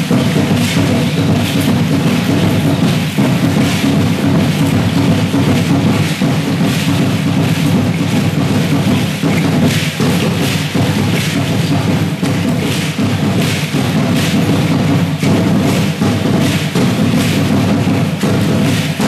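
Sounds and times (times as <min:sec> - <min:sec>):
rattle shaking: 0:00.0 - 0:19.0
steady drum beats: 0:00.0 - 0:19.0.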